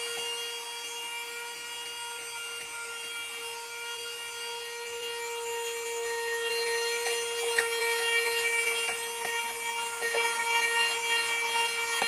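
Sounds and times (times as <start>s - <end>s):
handheld vacuum cleaner whining: 0.0s - 12.0s.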